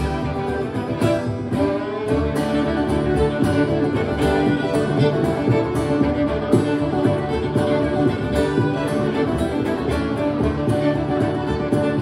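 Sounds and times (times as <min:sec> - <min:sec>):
fiddles playing a reel: 0:00.0 - 0:12.0
strummed acoustic guitar: 0:00.0 - 0:12.0.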